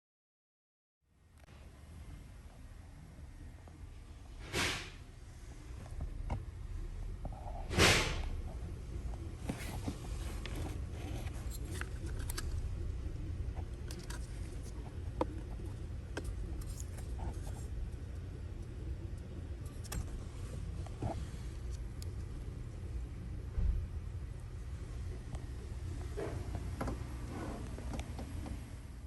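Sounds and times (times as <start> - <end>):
steady low hum: 1.1 - 29.0.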